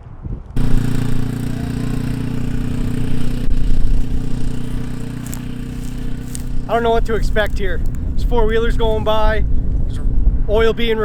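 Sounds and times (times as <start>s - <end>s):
mechanical drone: 0.6s - 10.1s.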